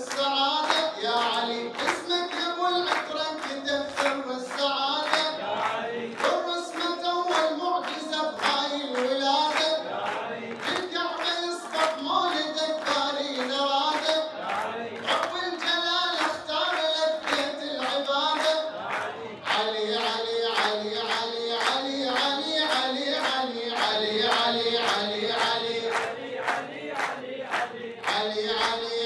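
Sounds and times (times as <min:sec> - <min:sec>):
man chanting into microphone: 0:00.0 - 0:29.0
rhythmic hand-clapping: 0:00.0 - 0:29.0.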